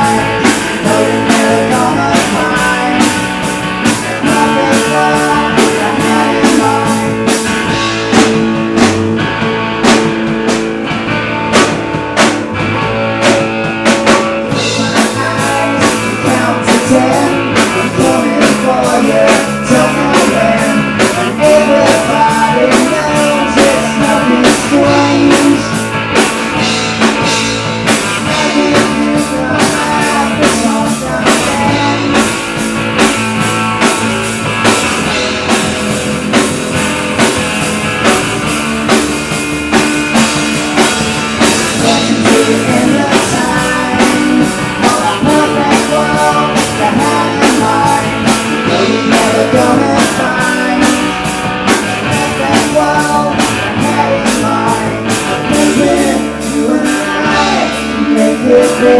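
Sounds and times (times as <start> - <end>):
bass guitar: 0.0 - 58.9
drum kit beat: 0.0 - 58.9
electric guitar: 0.0 - 58.9.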